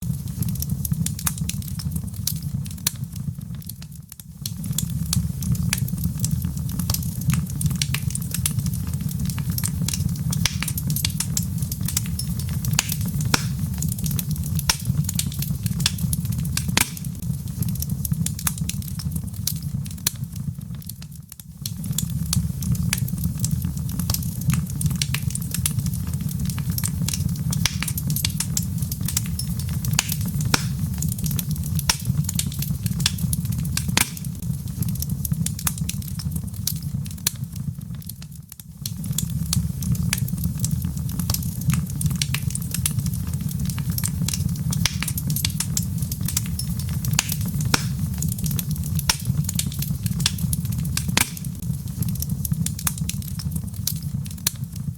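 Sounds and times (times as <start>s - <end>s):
burning wood popping and snapping: 0.0s - 54.9s
low rumble of flames: 0.0s - 54.9s.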